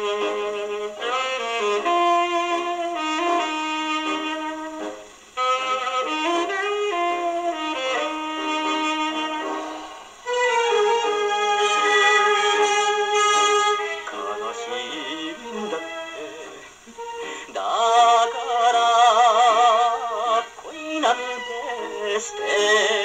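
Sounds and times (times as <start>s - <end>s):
band playing on old phonograph record: 0.0s - 23.0s.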